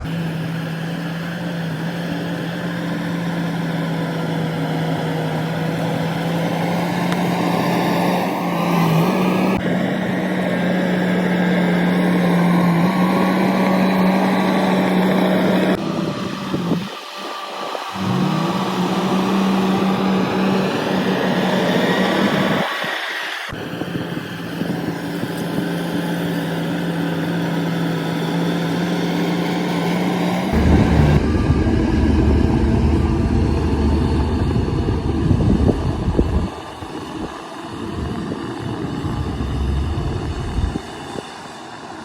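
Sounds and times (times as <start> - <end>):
bulldozer diesel engine running: 0.0 - 22.6, 24.1 - 41.6.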